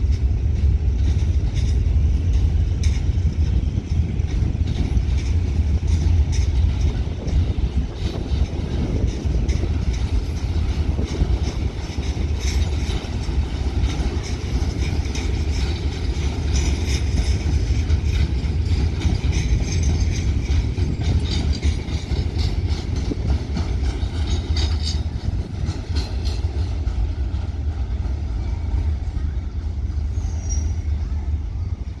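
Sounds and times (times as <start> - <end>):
train rumbling past: 0.0 - 32.0
wheels clattering on rails: 0.0 - 32.0.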